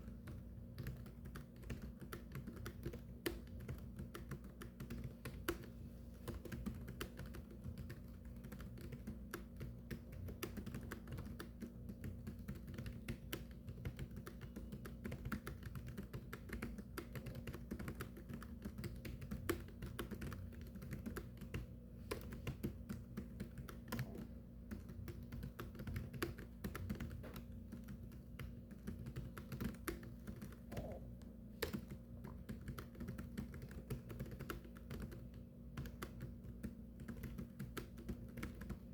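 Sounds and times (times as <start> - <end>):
fast typing on a keyboard: 0.0 - 31.0, 31.6 - 38.9
low steady hum: 0.0 - 38.9.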